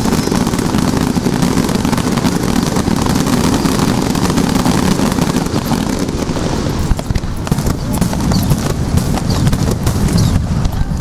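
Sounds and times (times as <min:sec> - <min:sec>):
fireworks crackling: 0:00.0 - 0:11.0
fireworks low rumble: 0:00.0 - 0:11.0.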